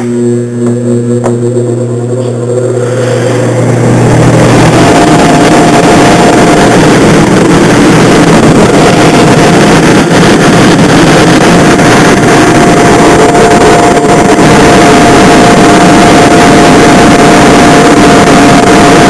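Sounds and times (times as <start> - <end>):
blower rush of air: 0.0 - 19.0
motor whine: 0.0 - 19.0.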